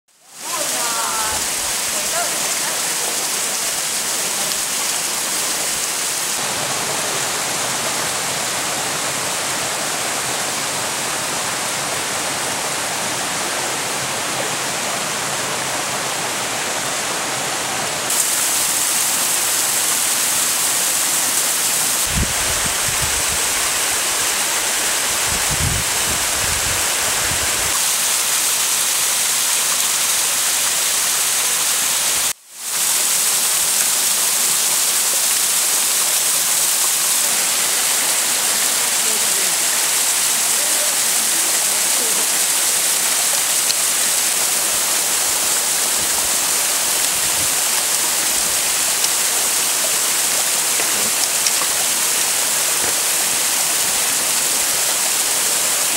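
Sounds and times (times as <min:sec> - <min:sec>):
waterfall rushing: 0:00.1 - 0:55.9.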